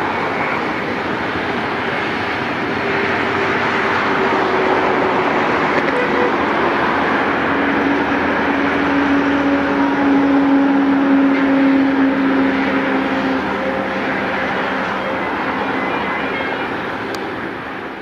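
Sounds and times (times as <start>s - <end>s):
distant diesel locomotive engine: 0.0s - 18.0s.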